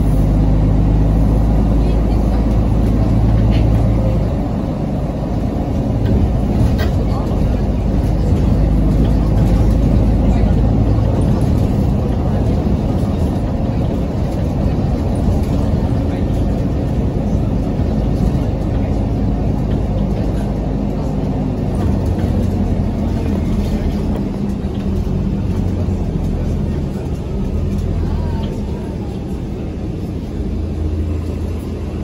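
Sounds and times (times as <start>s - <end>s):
bus drivetrain hum: 0.0s - 32.0s
road rumble: 0.0s - 32.0s.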